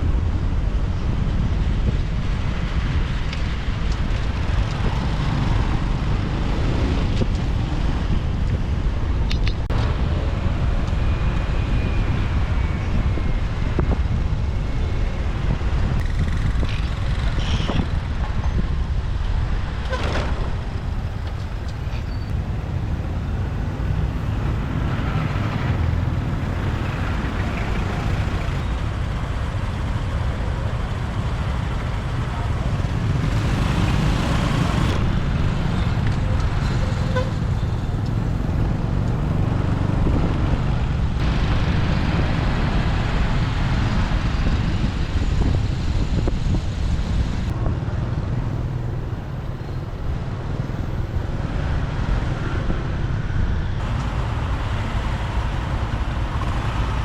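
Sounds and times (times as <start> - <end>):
motorbike engine and wind rumble: 0.0 - 57.0
vehicles passing: 0.0 - 57.0.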